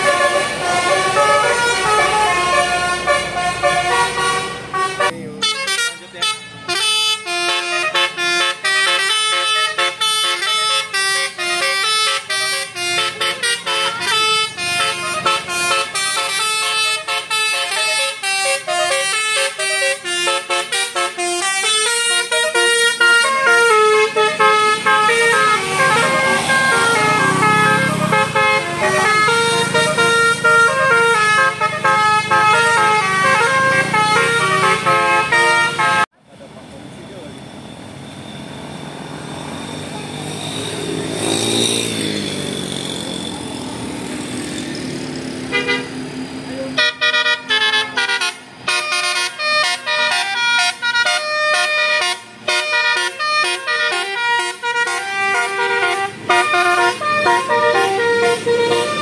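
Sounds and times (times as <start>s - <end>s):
bus multi-tone horn melodies: 0.0s - 36.1s, 45.4s - 59.0s.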